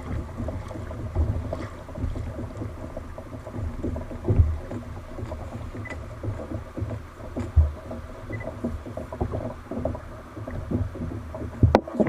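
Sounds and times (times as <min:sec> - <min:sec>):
low thumps: 0:00.0 - 0:12.0
water sloshing against hull: 0:00.0 - 0:12.0.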